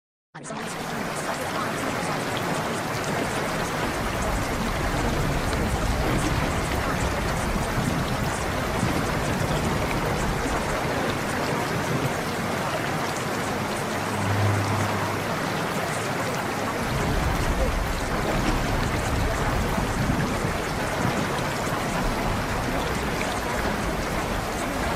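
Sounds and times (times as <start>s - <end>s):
water rushing: 0.4s - 24.9s
water drips: 0.5s - 24.9s.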